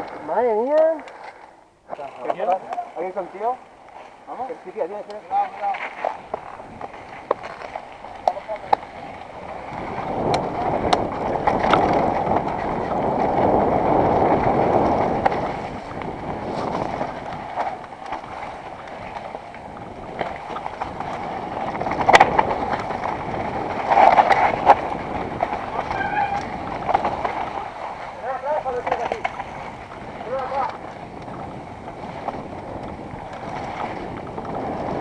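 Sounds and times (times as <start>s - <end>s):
bike tyres crunching over dirt: 0.0s - 35.0s
bike clattering over bumps: 3.9s - 35.0s
wind rushing on microphone: 5.3s - 35.0s.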